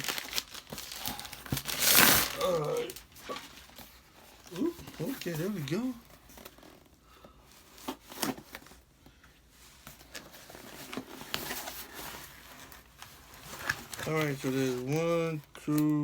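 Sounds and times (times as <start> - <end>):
packaging rustling and crinkling: 0.0 - 8.9, 9.5 - 16.0.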